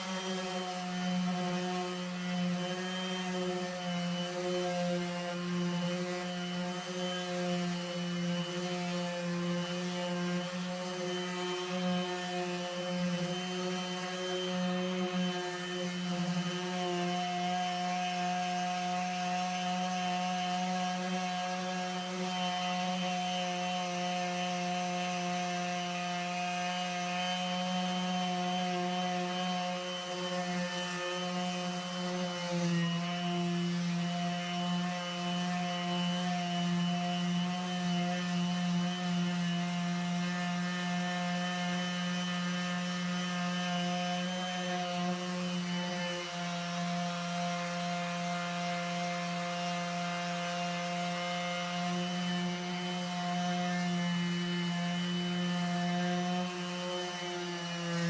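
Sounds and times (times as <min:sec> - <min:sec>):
electric sander whining: 0:00.0 - 0:58.0.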